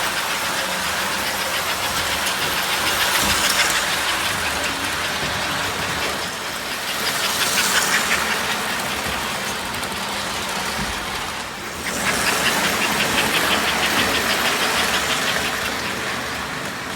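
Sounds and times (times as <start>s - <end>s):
model train rumbling and clicking: 0.0s - 16.9s.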